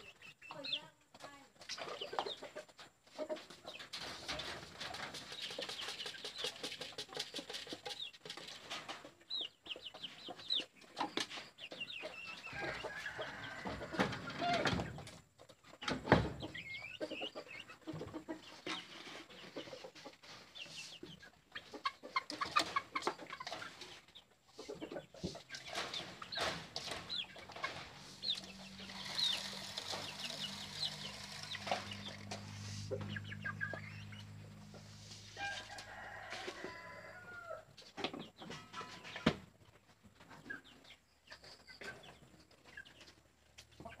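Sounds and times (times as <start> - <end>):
chickens clucking: 0.0 - 44.0
knocks and rattles of coop: 0.1 - 44.0.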